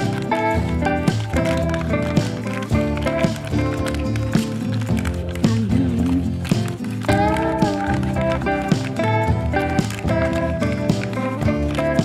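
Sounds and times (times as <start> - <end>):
background music with regular beat: 0.0 - 12.0.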